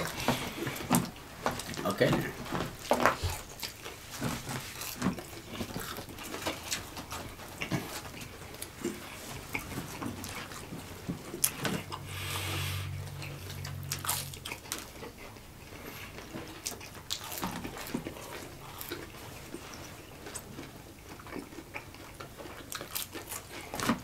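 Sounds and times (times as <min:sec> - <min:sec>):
low steady hum: 0:00.0 - 0:24.0
people chewing: 0:00.0 - 0:24.0.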